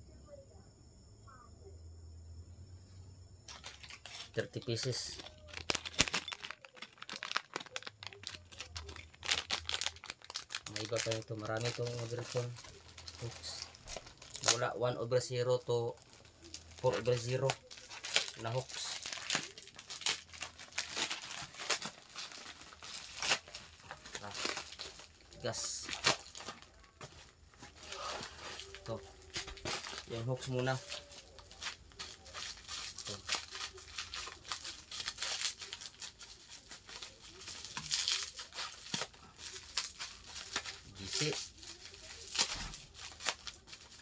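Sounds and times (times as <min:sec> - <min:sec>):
plastic packaging crinkling: 0:03.5 - 0:44.0.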